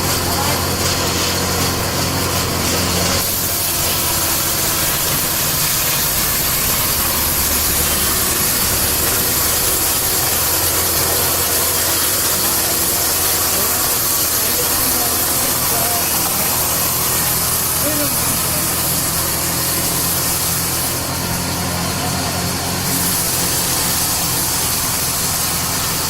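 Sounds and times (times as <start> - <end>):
power saw engine hum: 0.0 - 26.0
saw blade high hiss: 0.0 - 26.0.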